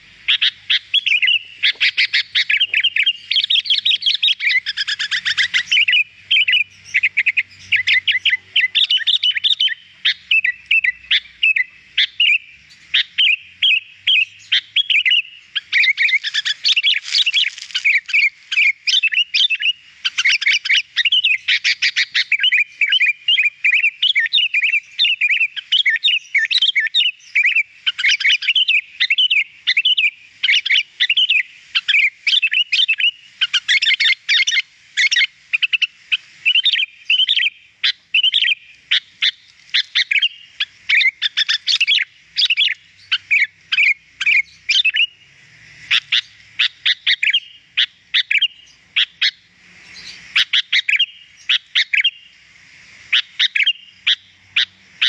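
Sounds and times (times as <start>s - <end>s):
bulbul chirping and whistling: 0.0s - 52.4s, 53.1s - 54.8s.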